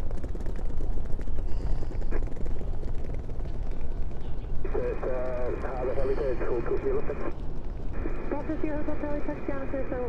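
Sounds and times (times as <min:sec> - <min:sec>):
plane engine rumbling: 0:00.0 - 0:10.0.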